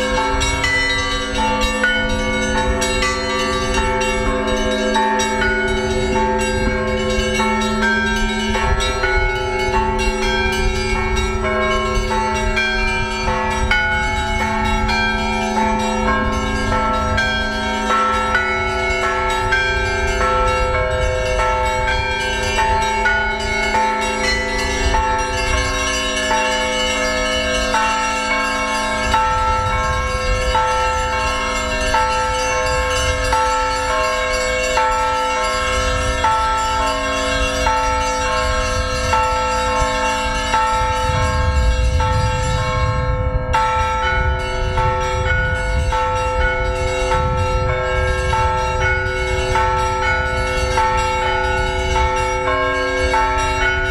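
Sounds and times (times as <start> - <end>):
large bell humming: 0.0 - 53.9
small church bells ringing: 0.0 - 53.9.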